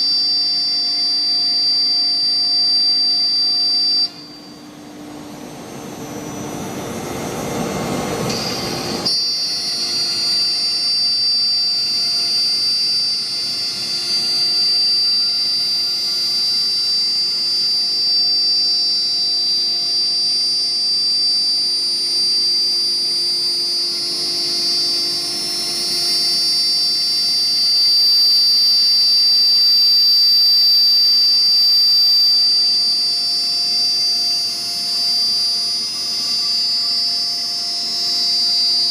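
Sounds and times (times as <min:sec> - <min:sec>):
cnc router high-pitched whine: 0:00.0 - 0:38.9.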